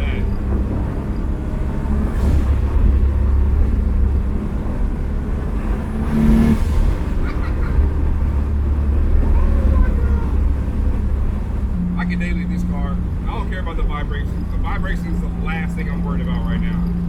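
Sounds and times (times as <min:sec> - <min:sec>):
car engine drone from cabin: 0:00.0 - 0:17.0.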